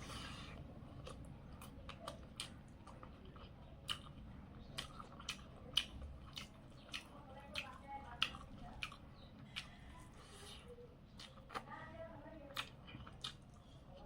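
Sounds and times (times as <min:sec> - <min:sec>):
person chewing food: 0:00.0 - 0:11.8, 0:12.5 - 0:14.0.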